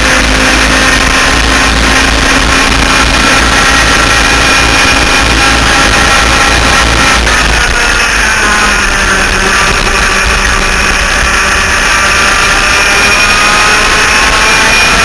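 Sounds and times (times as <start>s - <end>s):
kart engines screaming: 0.0s - 15.0s
wind rushing over microphone: 0.0s - 15.0s.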